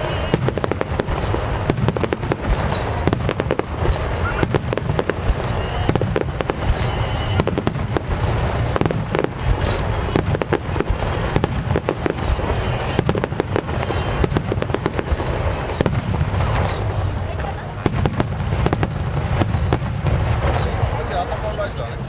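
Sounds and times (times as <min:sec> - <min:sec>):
deep booming rumble: 0:00.0 - 0:21.6
firework shells bursting: 0:00.0 - 0:22.0.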